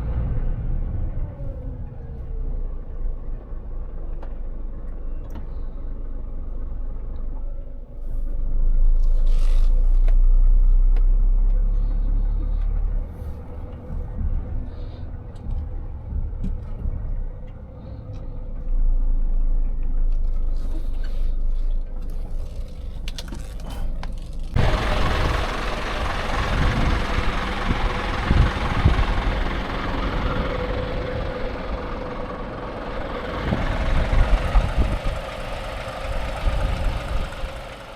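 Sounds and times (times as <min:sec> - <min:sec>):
truck engine rumbling: 0:00.0 - 0:37.9.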